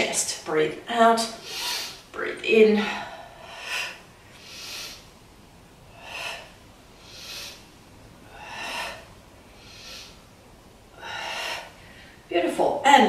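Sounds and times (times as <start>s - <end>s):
woman breathing in and out: 1.3s - 12.3s.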